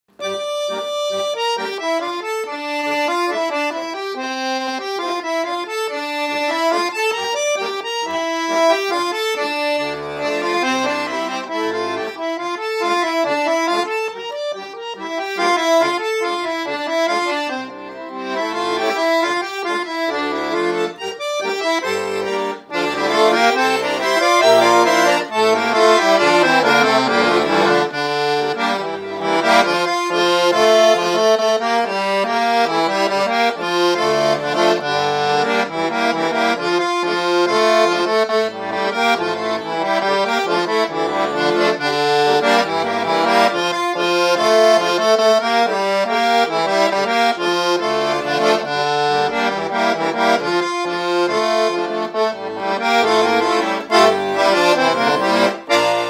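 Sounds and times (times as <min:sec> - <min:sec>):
button accordion folk tune: 0:00.1 - 0:56.0.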